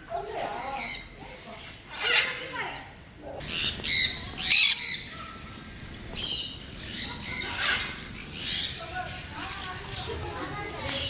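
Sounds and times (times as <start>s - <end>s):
parrots squawking: 0.5s - 5.5s, 6.1s - 10.1s.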